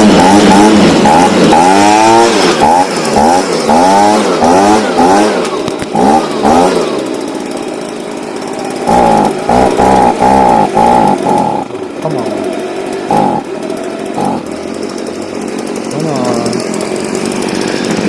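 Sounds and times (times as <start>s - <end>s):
leaf blower engine revving: 0.0s - 18.0s.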